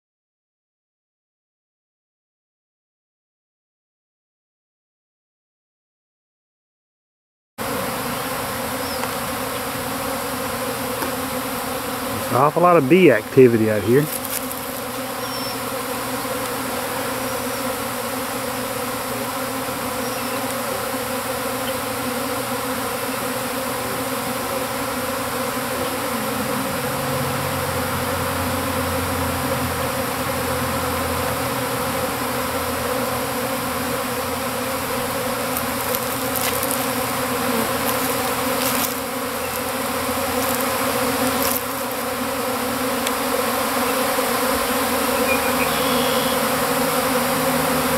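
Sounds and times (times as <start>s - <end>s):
bees buzzing: 7.6s - 47.9s.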